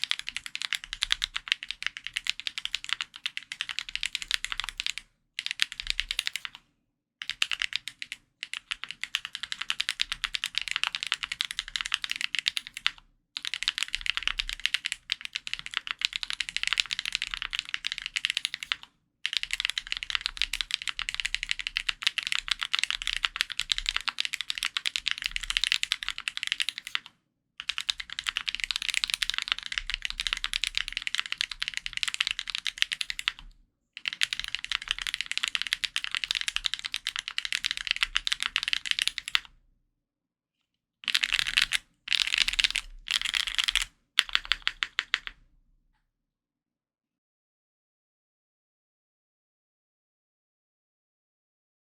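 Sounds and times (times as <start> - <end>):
mechanical keyboard typing: 0.0 - 6.6, 7.2 - 39.5, 41.1 - 45.4.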